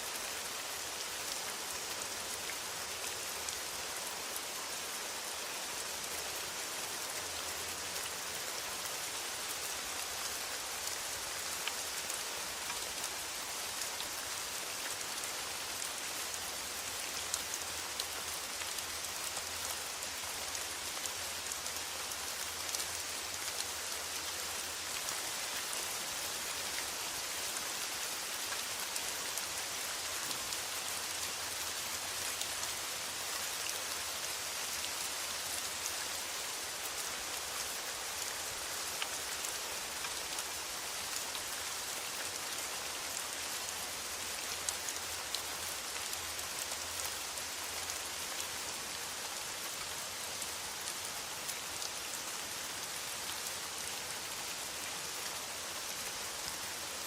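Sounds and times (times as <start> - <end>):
rain on a metal roof: 0.0 - 57.0.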